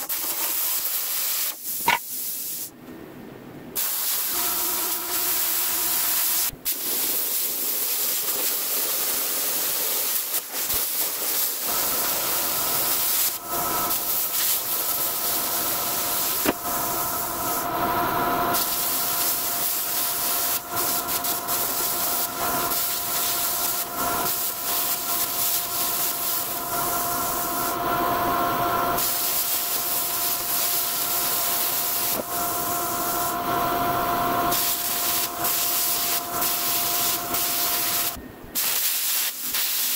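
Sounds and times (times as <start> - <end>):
plasma cutter hiss and whine: 0.0 - 2.7, 3.8 - 39.9.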